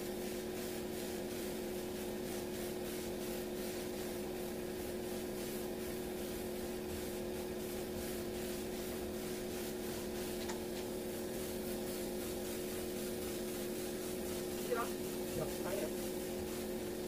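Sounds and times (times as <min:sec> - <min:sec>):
spray gun hissing: 0:00.0 - 0:17.0.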